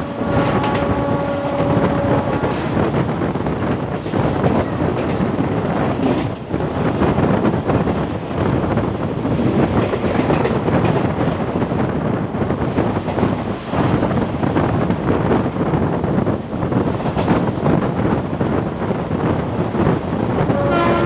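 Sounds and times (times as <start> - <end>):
train wheels rumbling on rails: 0.0 - 21.0
wind buffeting microphone: 0.0 - 21.0.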